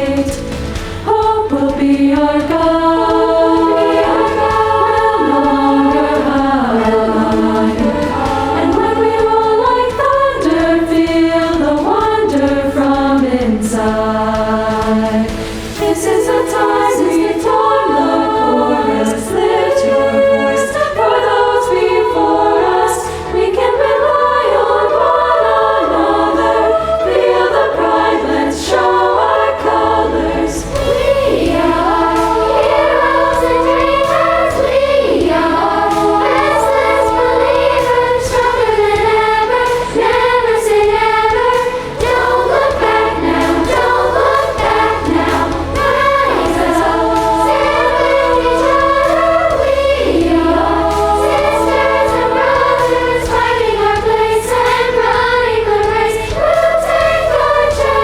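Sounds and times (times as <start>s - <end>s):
girls' choir singing: 0.0s - 58.0s
low instrumental accompaniment: 0.0s - 58.0s.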